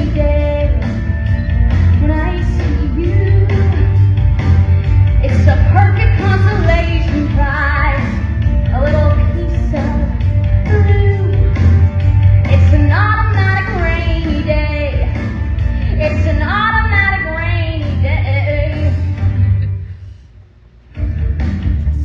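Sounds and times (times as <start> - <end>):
instrumental backing with bass: 0.0 - 20.1, 20.8 - 22.0.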